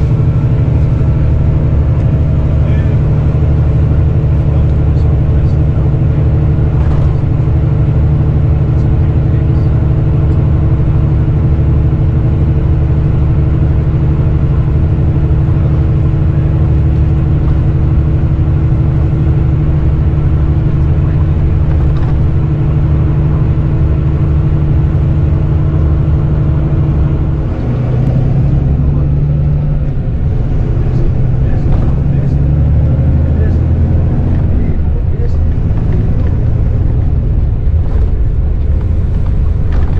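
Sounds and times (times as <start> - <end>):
coach engine drone: 0.0 - 39.9
tyre and road noise: 0.0 - 39.9.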